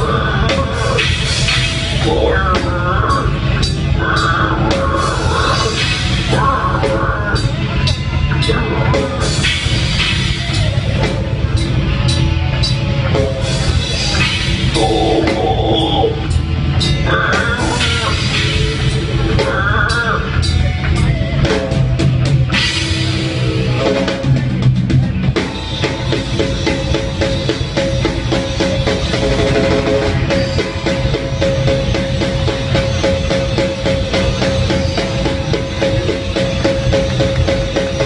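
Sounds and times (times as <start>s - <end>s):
live metal band playing: 0.0s - 38.0s.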